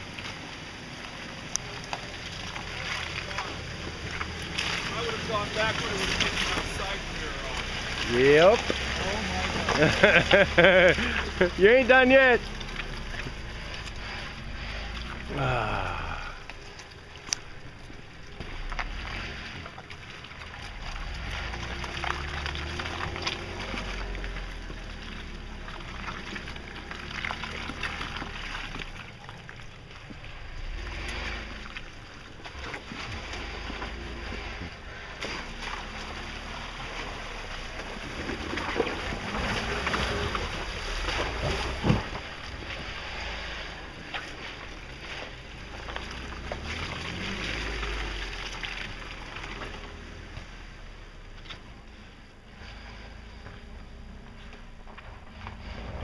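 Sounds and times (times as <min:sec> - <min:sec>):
car engine running at low revs: 0:00.0 - 0:56.0.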